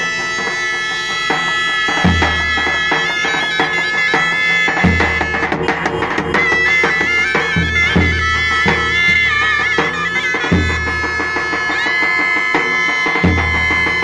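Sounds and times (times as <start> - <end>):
zurnas playing melody: 0.0 - 14.0.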